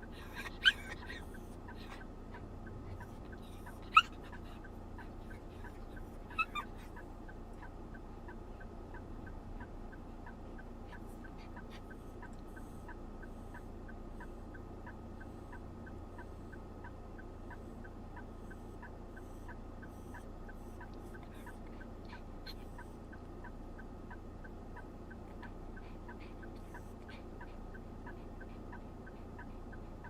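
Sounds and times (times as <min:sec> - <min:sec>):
indicator relay ticking: 0:00.0 - 0:30.0
low engine hum: 0:00.0 - 0:30.0.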